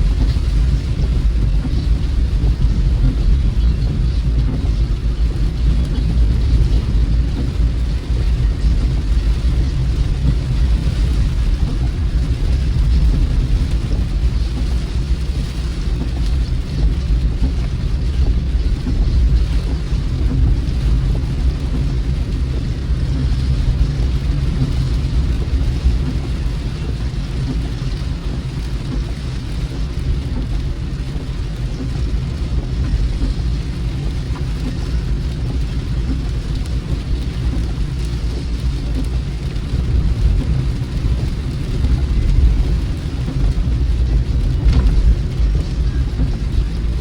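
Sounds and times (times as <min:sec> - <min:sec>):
rain hissing on car: 0:00.0 - 0:47.0
road and engine rumble: 0:00.0 - 0:47.0.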